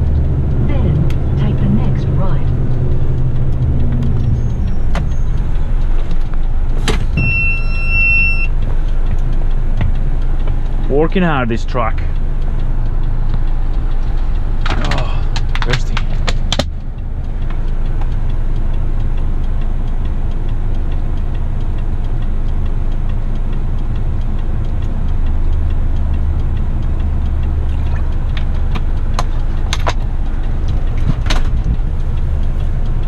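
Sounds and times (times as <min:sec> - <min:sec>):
truck diesel engine drone: 0:00.0 - 0:33.0.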